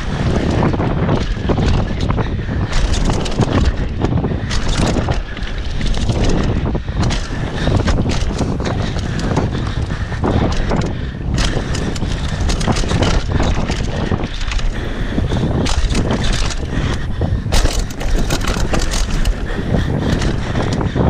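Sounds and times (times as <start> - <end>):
bike rattling over bumps: 0.0 - 21.0
wind buffeting microphone: 0.0 - 21.0.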